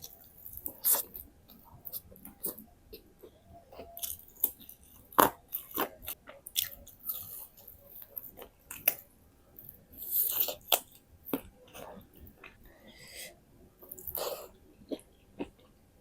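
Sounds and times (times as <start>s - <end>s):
person chewing and crunching: 0.0s - 12.8s, 13.8s - 15.8s.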